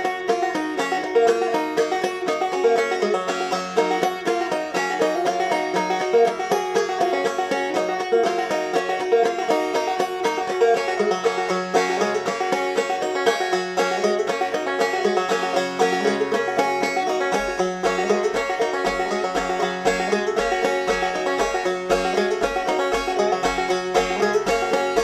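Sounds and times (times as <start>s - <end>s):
fast-picked banjo tune: 0.0s - 25.0s.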